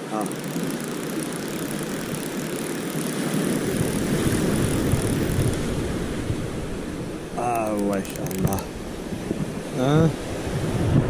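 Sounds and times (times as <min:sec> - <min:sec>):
surf breaking over rocks: 0:00.0 - 0:11.0
wind rumbling on microphone: 0:00.4 - 0:11.0.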